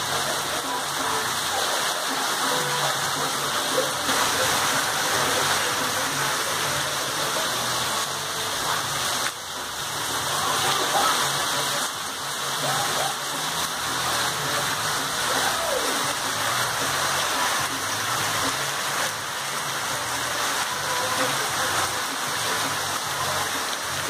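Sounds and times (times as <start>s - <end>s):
heavy rain on cobblestones: 0.0s - 24.0s.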